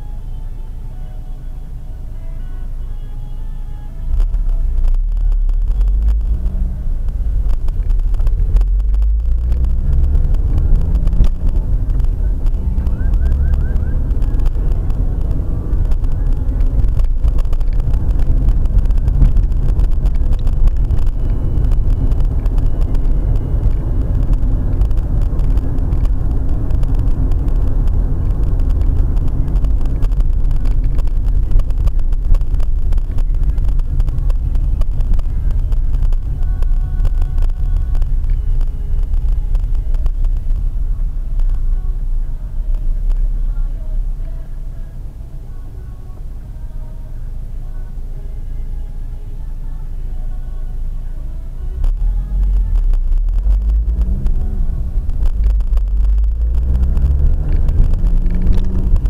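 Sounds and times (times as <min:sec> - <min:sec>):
car engine accelerating: 0:00.0 - 0:59.0
road rumble: 0:00.0 - 0:59.0.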